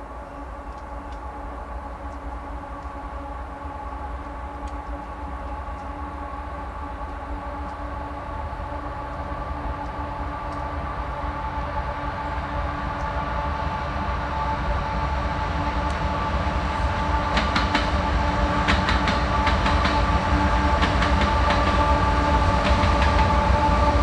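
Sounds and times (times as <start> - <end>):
diesel train droning: 0.0 - 24.0.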